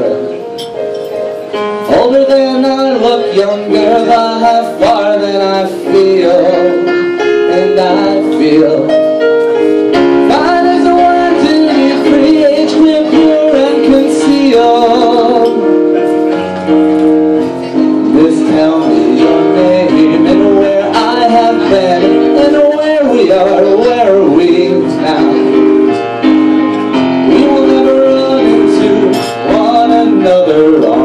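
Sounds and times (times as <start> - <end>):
person singing a slow ballad: 0.0 - 31.0
sustained keyboard chords: 0.0 - 31.0.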